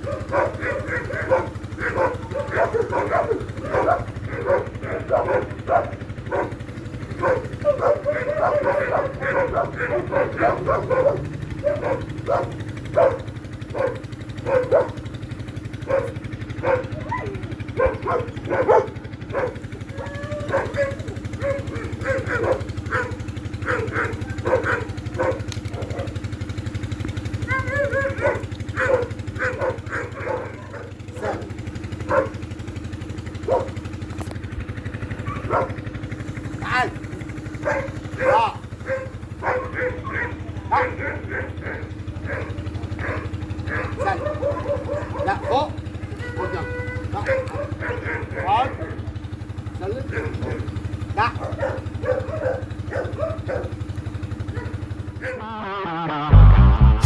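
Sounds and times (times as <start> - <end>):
dog barking: 0.0 - 55.5
engine idling: 0.0 - 57.0.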